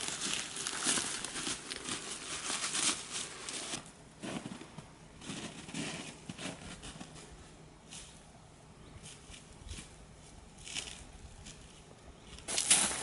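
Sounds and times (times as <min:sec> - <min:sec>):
footsteps on dry leaves and snow: 0:00.0 - 0:08.2, 0:09.0 - 0:13.0.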